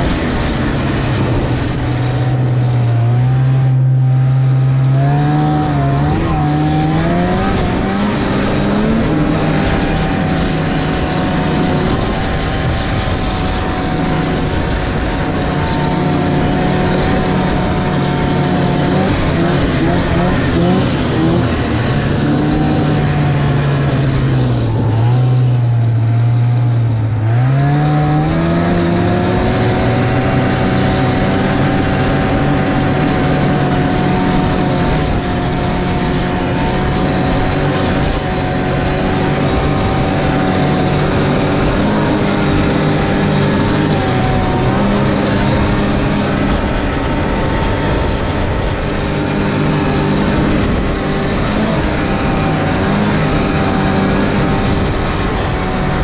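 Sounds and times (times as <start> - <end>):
snowmobile engine running: 0.0 - 56.0
steady rushing noise: 0.0 - 56.0.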